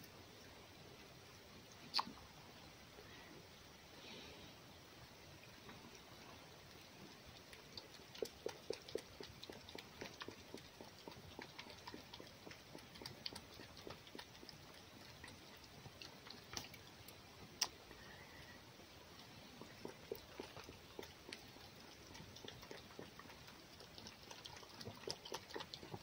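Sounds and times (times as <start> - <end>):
fox lapping and eating: 4.9 - 26.0.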